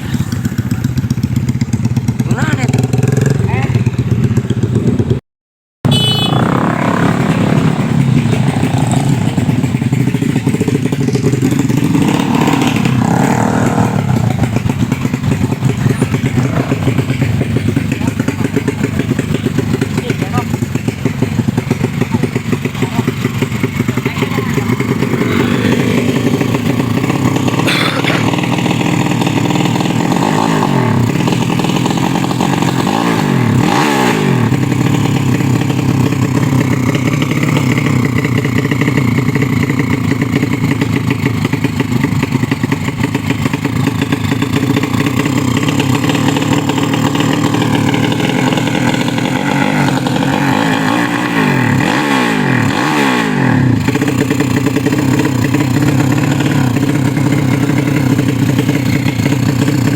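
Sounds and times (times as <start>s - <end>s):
motorcycle engine running: 0.0s - 5.2s, 5.9s - 59.9s.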